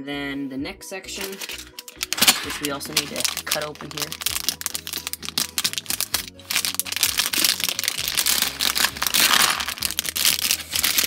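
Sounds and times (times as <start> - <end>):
plastic bag crinkling: 1.3 - 11.0
plastic bricks clattering on table: 1.4 - 11.0.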